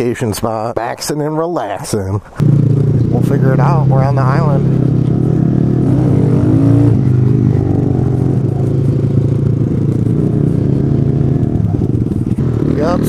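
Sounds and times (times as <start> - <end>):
motorcycle engine running: 2.4 - 13.0.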